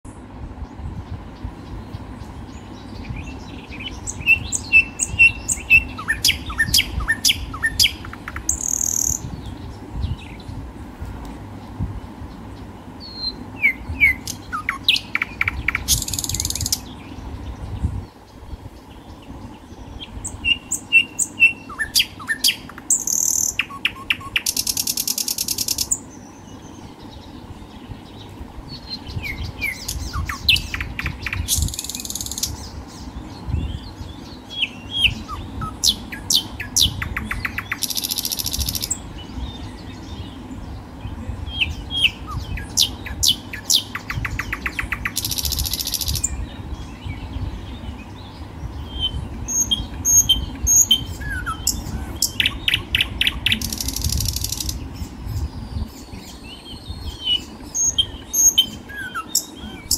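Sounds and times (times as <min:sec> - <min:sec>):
birds chirping: 0:00.0 - 0:59.9
high buzzing bird trills: 0:00.1 - 0:59.9.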